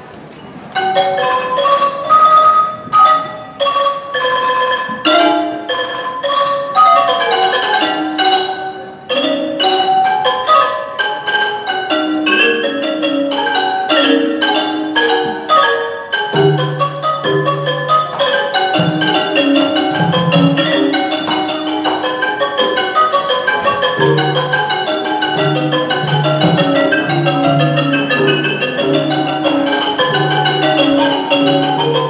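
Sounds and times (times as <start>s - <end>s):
wooden xylophone melody: 0.0s - 32.0s.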